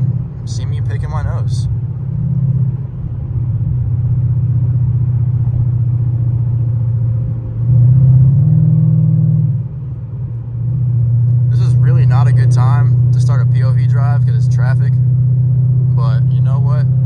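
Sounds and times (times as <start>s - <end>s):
car engine drone from inside cabin: 0.0s - 17.0s.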